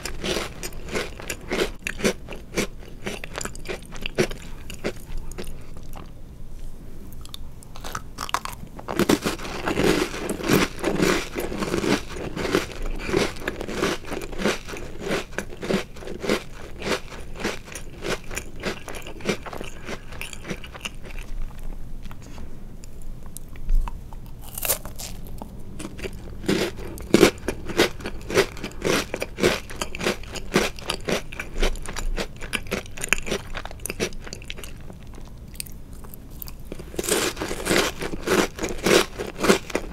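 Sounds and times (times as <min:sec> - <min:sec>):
crunching and chewing cookies: 0:00.0 - 0:06.2, 0:07.1 - 0:39.9.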